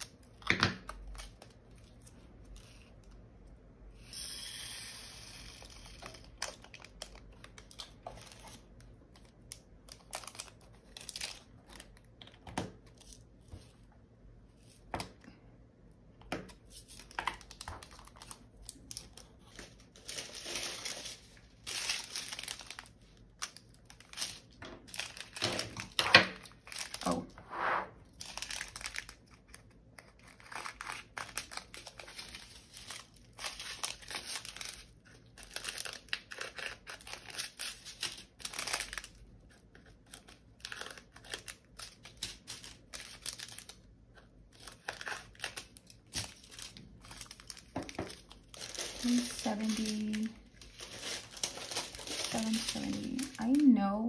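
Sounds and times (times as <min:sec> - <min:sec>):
plastic bags crinkling: 0:05.6 - 0:13.3, 0:16.7 - 0:27.4, 0:28.1 - 0:43.9, 0:44.5 - 0:53.8.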